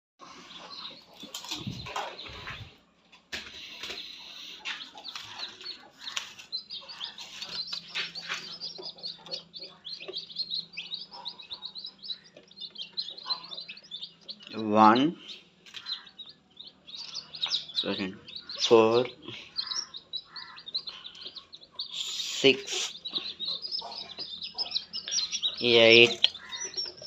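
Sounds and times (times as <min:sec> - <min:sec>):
chicks peeping: 0:00.2 - 0:27.0.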